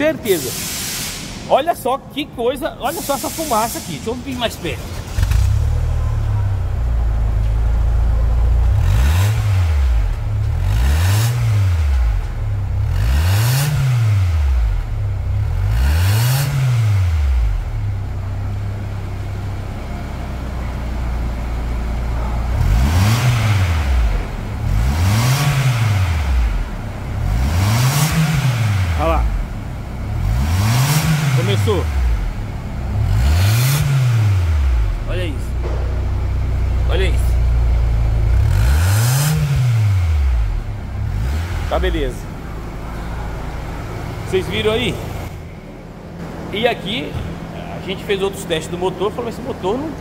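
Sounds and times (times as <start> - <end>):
car engine idling and revving: 0.0 - 50.0.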